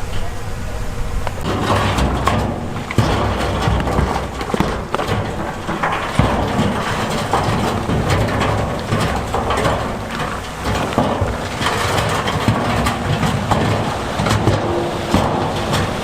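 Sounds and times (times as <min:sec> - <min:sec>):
diesel machinery running: 0:00.0 - 0:16.0
rocks clattering and grinding: 0:01.3 - 0:16.0.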